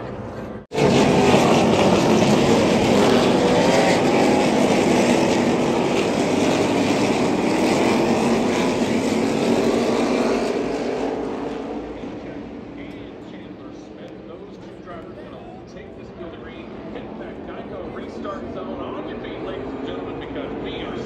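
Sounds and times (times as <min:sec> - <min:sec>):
loud steady engine noise: 0:00.0 - 0:21.0.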